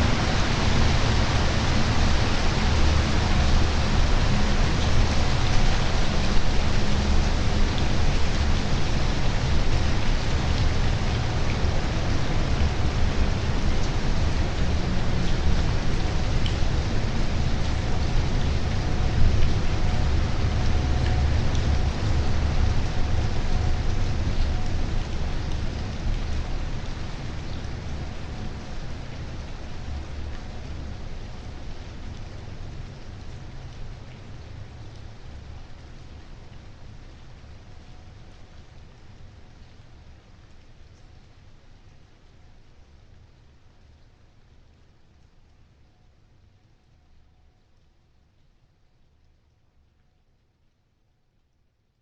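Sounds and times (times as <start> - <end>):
steady rain falling: 0.0 - 52.0
faint raindrop ticks: 4.3 - 52.0.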